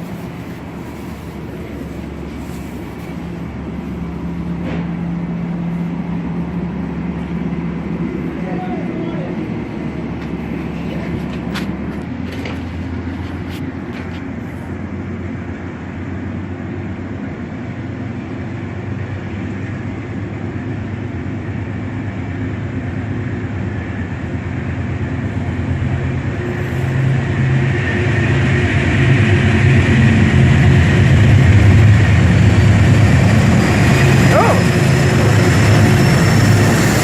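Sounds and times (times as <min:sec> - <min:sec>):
diesel locomotive engine droning: 0:00.0 - 0:37.0.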